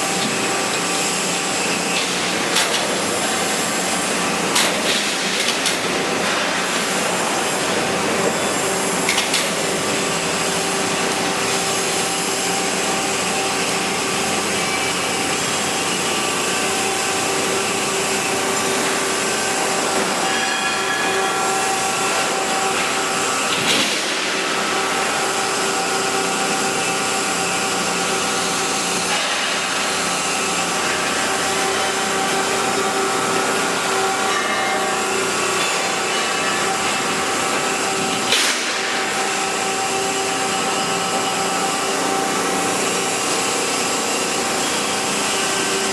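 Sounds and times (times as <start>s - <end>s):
bending machine humming: 0.0s - 45.9s.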